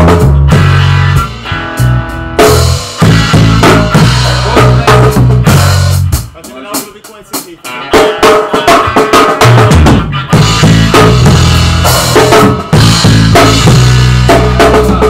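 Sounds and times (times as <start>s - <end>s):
electric guitar: 0.0s - 6.4s, 7.6s - 15.0s
bass guitar: 0.0s - 7.0s, 7.6s - 15.0s
drum kit: 0.0s - 15.0s.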